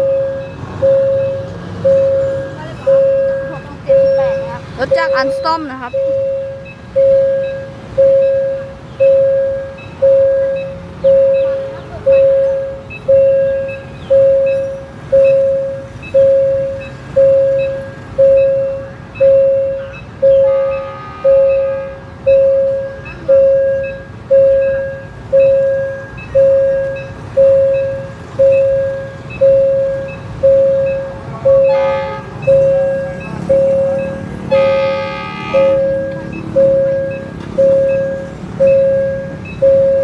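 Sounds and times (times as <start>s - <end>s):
level-crossing warning bell ringing: 0.0s - 40.0s.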